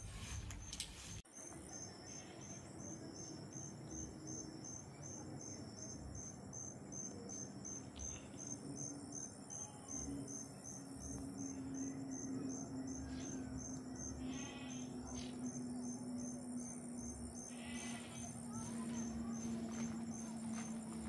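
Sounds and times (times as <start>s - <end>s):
crickets trilling: 0.0s - 21.0s
high insect drone: 0.0s - 21.0s.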